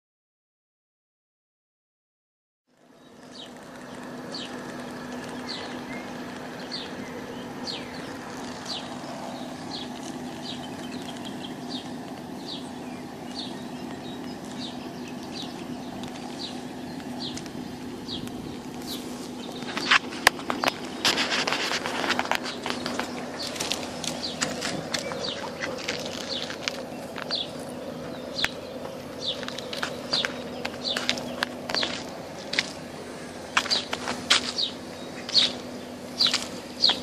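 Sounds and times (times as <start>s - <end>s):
outdoor background noise: 2.7s - 37.0s
steady low hum: 2.7s - 37.0s
small bird chirping: 2.8s - 37.0s.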